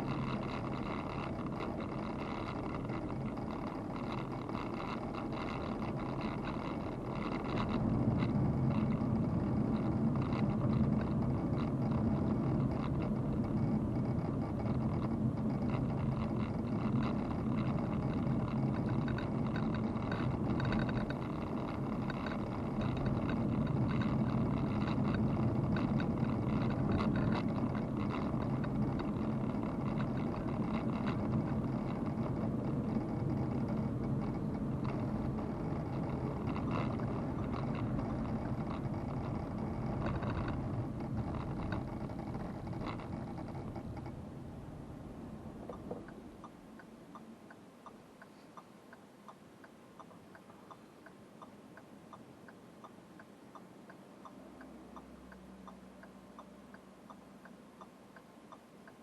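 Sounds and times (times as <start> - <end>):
car engine hum: 0.0 - 59.0
road and wind noise: 0.0 - 59.0.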